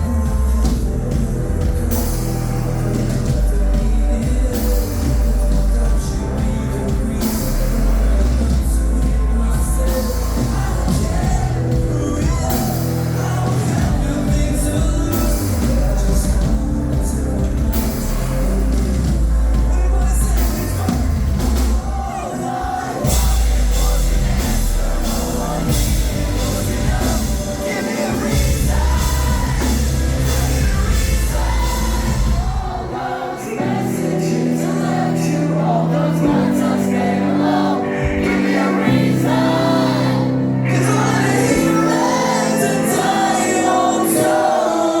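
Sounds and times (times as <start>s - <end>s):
live band playing: 0.0s - 45.0s
person singing: 0.0s - 45.0s.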